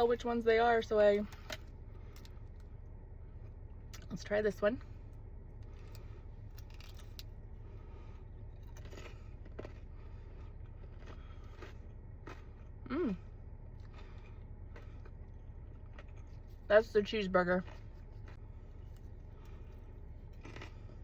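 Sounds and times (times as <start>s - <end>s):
steady low hum: 0.0s - 21.0s
crunching and chewing: 1.2s - 4.2s, 4.8s - 16.9s, 17.6s - 21.0s.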